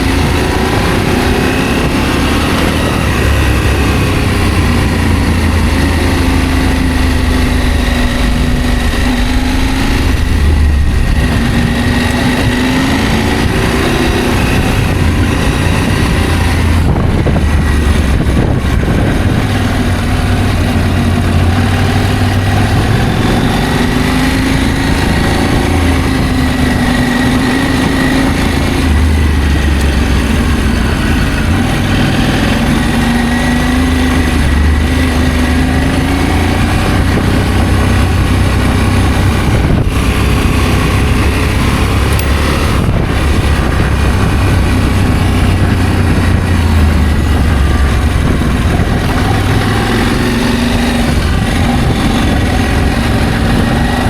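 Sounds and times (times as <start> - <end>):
motorcycle engine running: 0.0 - 54.0
steady rushing noise: 0.0 - 54.0.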